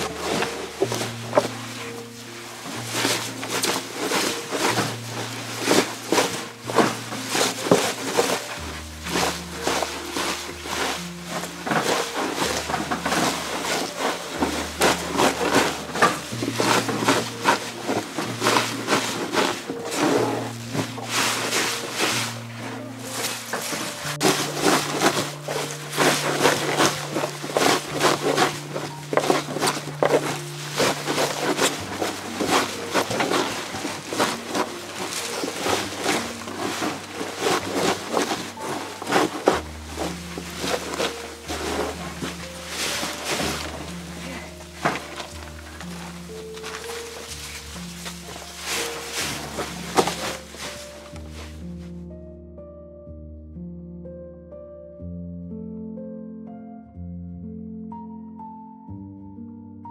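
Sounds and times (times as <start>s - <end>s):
hands rubbing rustling leaves: 0.0s - 52.0s.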